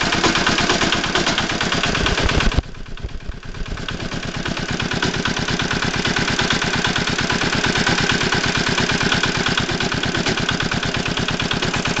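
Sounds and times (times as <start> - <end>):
tractor engine running with knock: 0.0 - 12.0.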